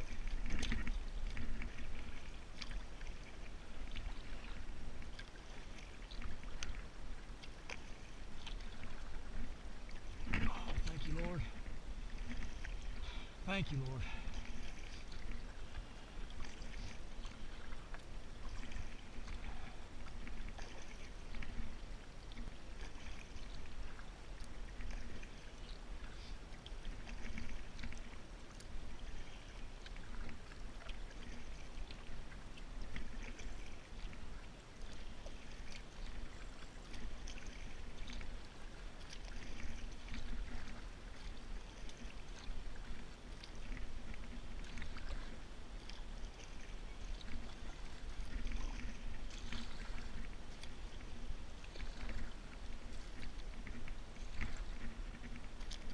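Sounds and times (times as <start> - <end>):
paddle swishing through water: 0.0 - 55.9
water splashes and drips: 0.0 - 55.9.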